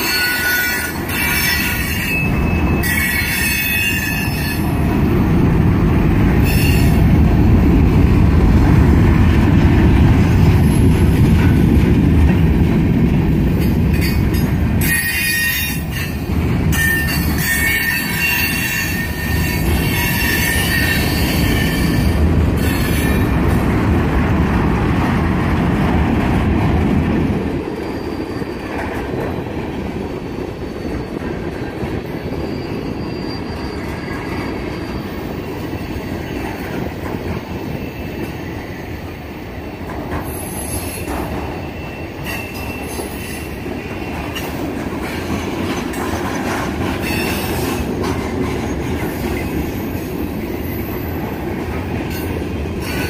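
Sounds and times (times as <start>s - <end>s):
freight train rolling on rails: 0.0s - 53.0s.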